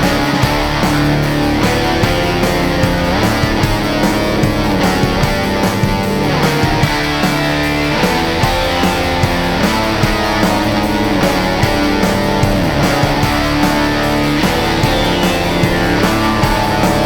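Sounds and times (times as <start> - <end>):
electric guitar rock music: 0.0 - 17.0.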